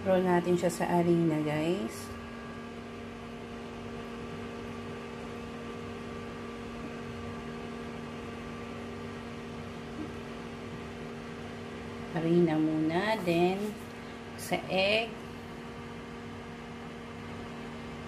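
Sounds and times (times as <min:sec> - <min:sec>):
appliance electrical hum: 0:00.0 - 0:18.0.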